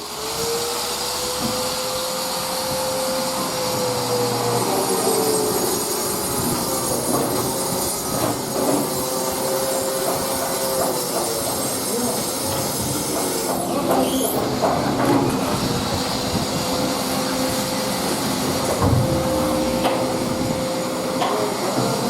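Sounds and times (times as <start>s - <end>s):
machinery humming and rattling: 0.0s - 22.0s.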